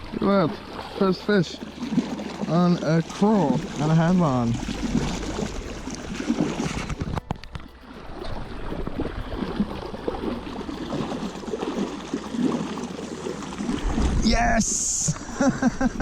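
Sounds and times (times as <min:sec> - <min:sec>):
water splashing around boat: 0:00.0 - 0:16.0.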